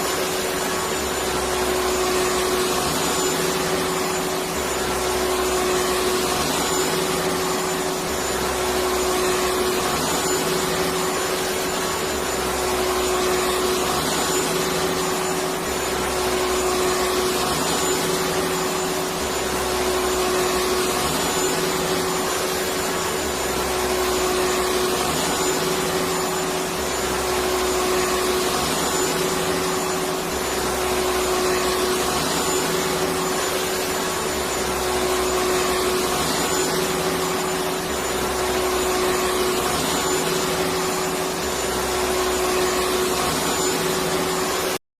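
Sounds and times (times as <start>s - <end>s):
vacuum cleaner running: 0.0s - 44.8s.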